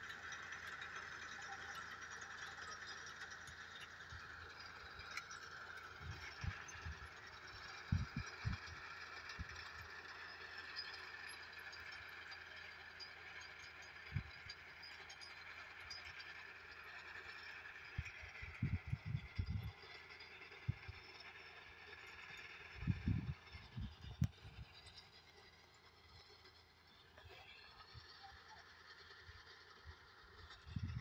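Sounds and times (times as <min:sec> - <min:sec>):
faint machine drone: 0:00.0 - 0:31.0.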